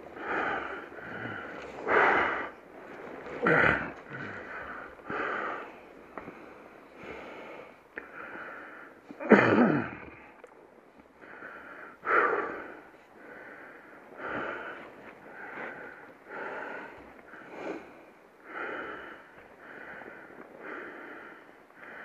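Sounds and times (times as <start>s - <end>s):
heavy breathing: 0.0s - 9.2s, 11.1s - 22.0s.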